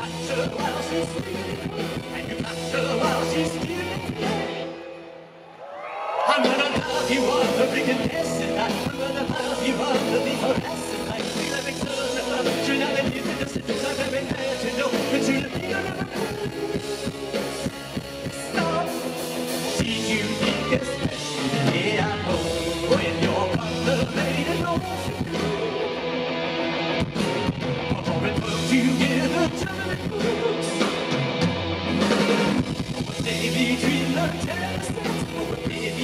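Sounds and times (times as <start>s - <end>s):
male lead vocals: 0.0s - 5.3s, 5.9s - 36.0s
rock band playing: 0.0s - 36.0s.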